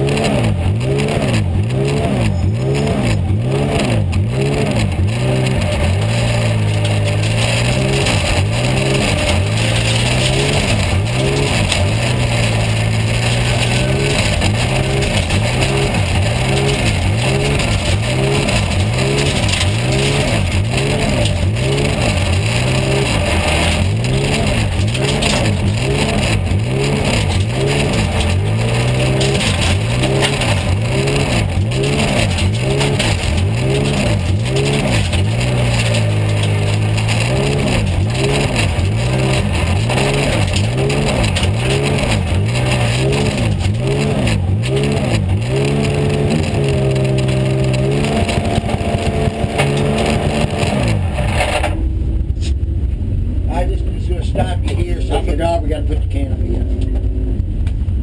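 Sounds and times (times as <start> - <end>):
car engine at low revs: 0.0 - 58.0.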